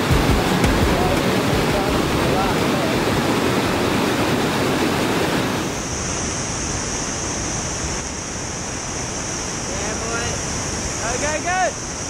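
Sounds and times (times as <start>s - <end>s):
whitewater rushing in river rapid: 0.0s - 12.0s.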